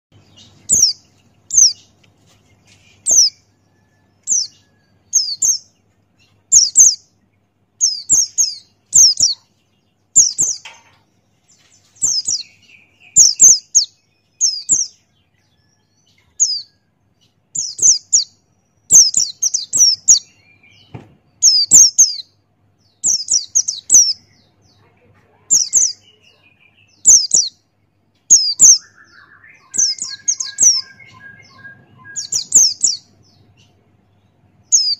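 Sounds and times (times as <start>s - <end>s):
bird chirping: 0.1s - 34.9s.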